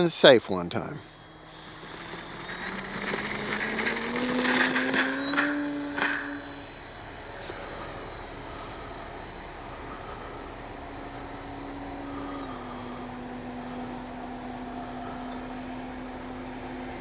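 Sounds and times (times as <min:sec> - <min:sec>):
rc plane electric motor whine: 0:00.6 - 0:17.0.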